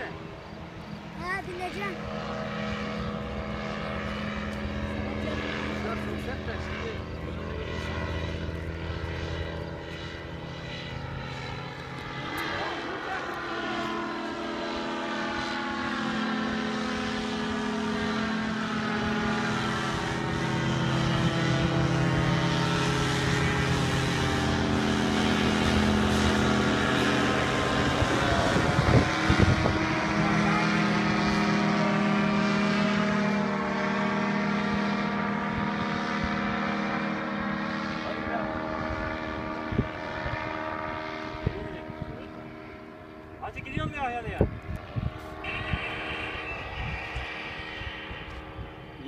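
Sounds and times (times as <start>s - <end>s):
paraglider engine and propeller: 0.0s - 49.0s.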